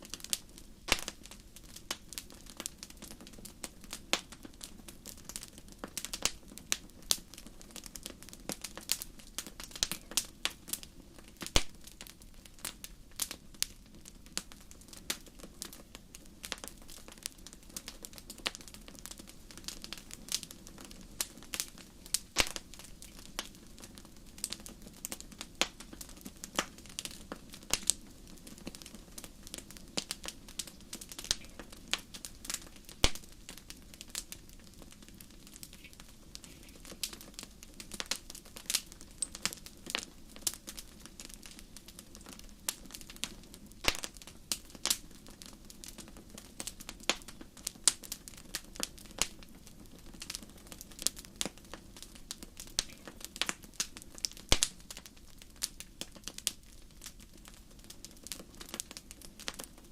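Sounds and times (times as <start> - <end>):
wood campfire crackling: 0.0 - 59.9.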